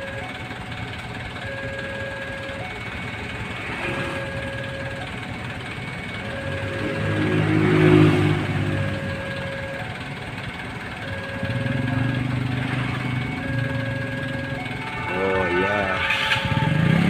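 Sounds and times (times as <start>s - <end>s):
two-tone electronic warning beeps: 0.0s - 17.0s
vehicle engines idling and revving: 0.0s - 17.0s.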